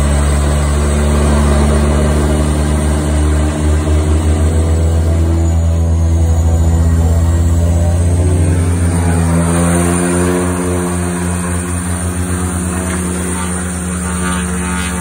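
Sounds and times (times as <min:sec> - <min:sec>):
pulsing propeller beat: 0:00.0 - 0:15.0
turboprop engines running: 0:00.0 - 0:15.0.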